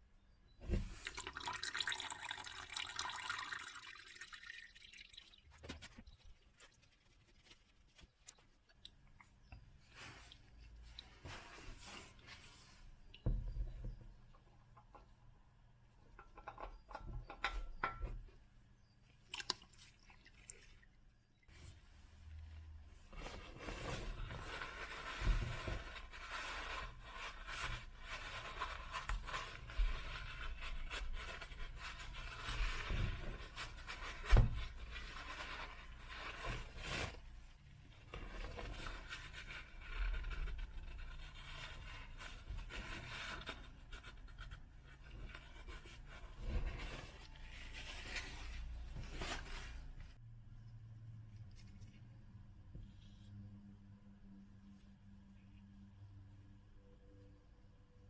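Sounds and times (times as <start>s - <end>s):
rubbing and scraping handling noise: 5.4s - 50.2s, 51.3s - 53.6s.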